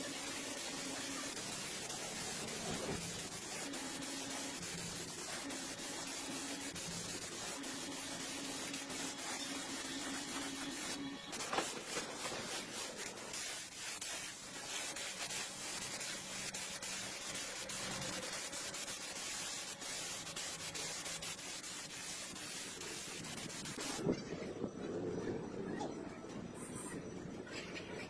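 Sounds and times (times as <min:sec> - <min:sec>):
abrasive sanding: 0:00.0 - 0:24.0.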